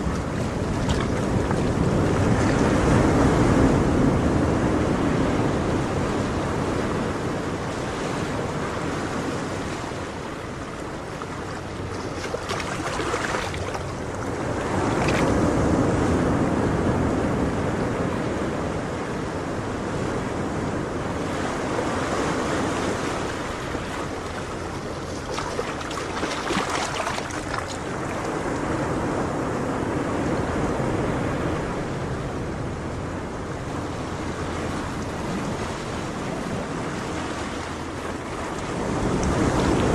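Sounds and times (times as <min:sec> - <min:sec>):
ocean waves on shore: 0:00.0 - 0:39.9.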